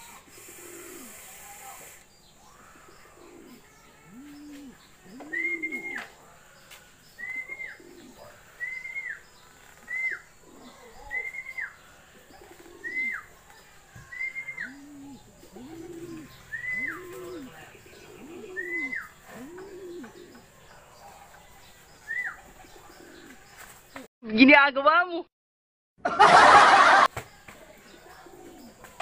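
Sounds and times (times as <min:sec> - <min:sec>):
pigeons cooing: 0:00.0 - 0:24.0, 0:27.9 - 0:29.0.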